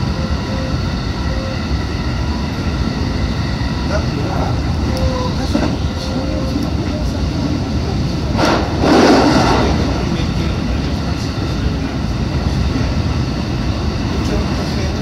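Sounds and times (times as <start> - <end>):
rush of noise: 0.0 - 15.0
train wheels rumbling on rail: 0.0 - 15.0.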